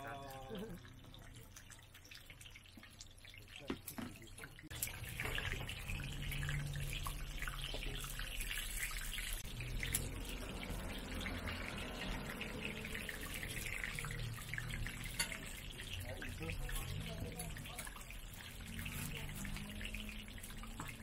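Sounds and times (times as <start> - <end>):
hot oil sizzling and crackling: 0.0 - 21.0.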